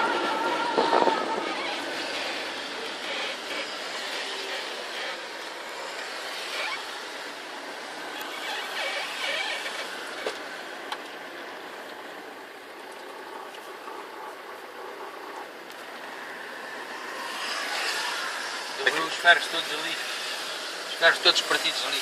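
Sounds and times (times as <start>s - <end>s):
outdoor background hiss: 1.0s - 22.0s.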